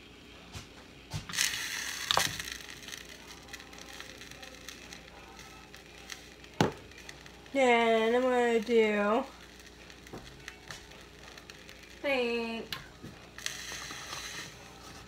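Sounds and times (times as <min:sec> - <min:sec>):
pepper grinder grinding: 0:01.3 - 0:14.9.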